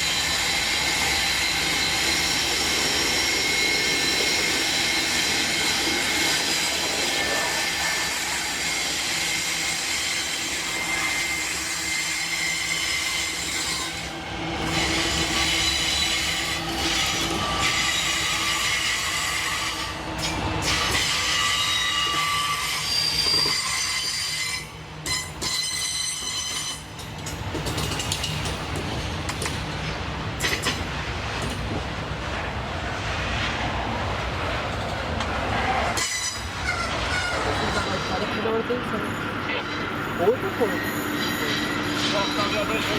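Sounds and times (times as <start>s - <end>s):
train wheels squealing: 0.0s - 29.6s, 35.5s - 42.9s
rumble of train wagons: 0.0s - 42.9s.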